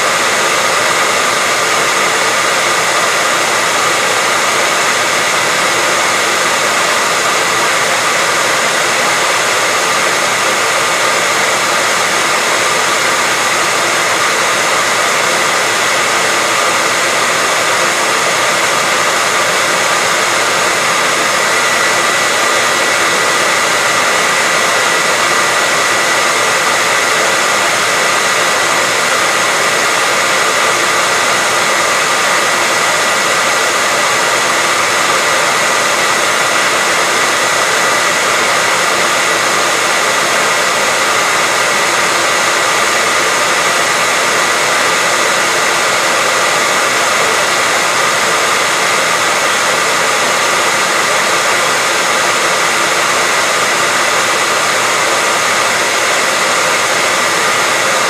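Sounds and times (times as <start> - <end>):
hairdryer running: 0.0 - 58.0.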